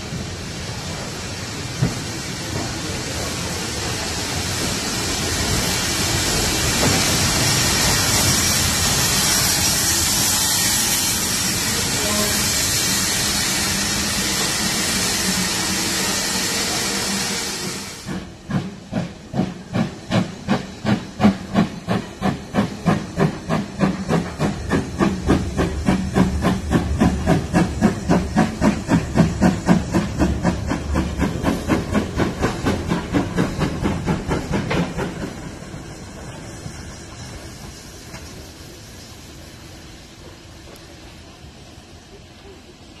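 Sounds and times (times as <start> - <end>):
steam locomotive exhaust beats: 0.0 - 42.2
steam hissing: 0.0 - 43.0.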